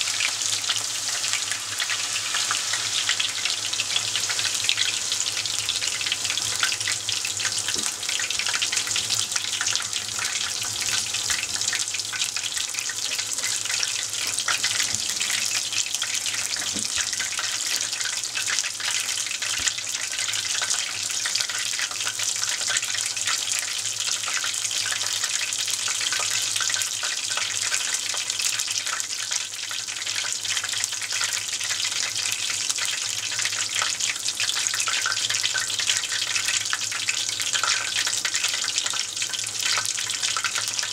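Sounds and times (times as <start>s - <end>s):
food frying in hot oil: 0.0s - 40.9s.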